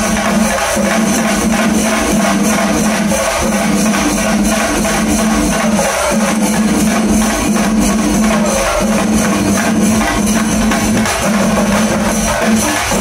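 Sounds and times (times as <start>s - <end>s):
cymbals clashing: 0.0s - 13.0s
rapid drum strokes: 0.0s - 13.0s.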